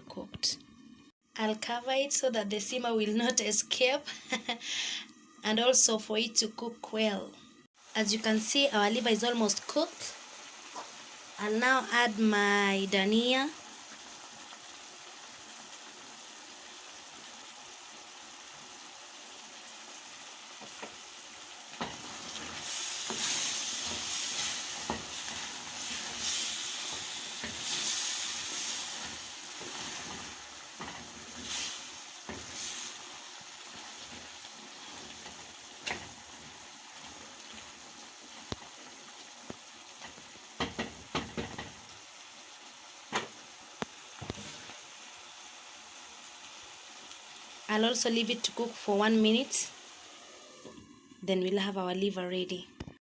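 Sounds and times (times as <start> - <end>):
stew sizzling in a pot: 7.8 - 51.2.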